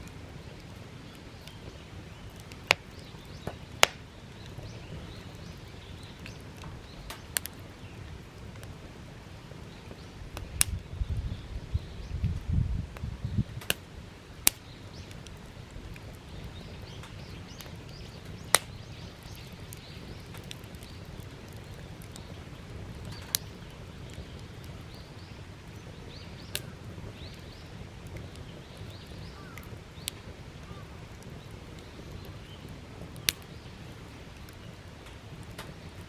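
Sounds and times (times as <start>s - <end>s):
wood fire crackling pops: 0.0s - 36.0s.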